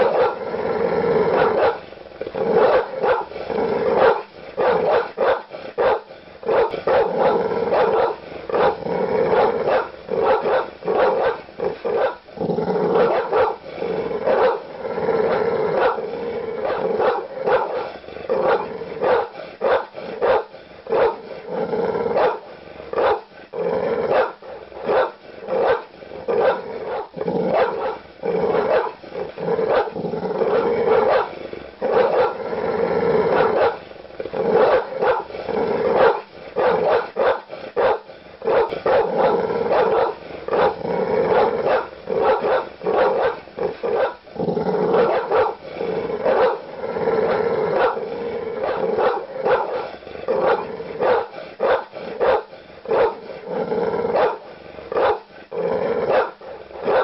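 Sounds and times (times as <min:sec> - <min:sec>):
large dog barking: 0:00.0 - 0:32.5, 0:33.1 - 0:57.0.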